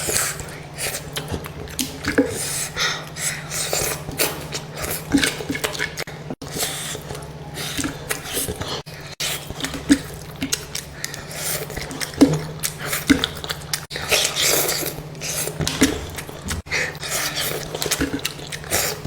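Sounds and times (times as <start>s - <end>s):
crunching and chewing: 0.0s - 19.0s
wet mouth sounds: 0.0s - 19.0s.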